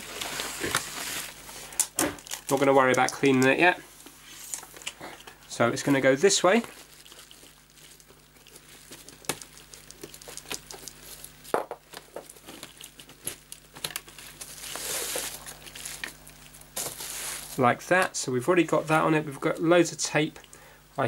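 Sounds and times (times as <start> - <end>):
plastic crinkling: 0.0 - 17.6.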